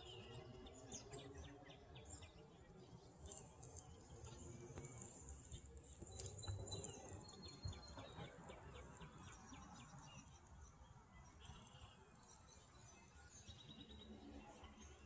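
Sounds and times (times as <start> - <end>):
faint bird chirps and trill: 0.0 - 15.0.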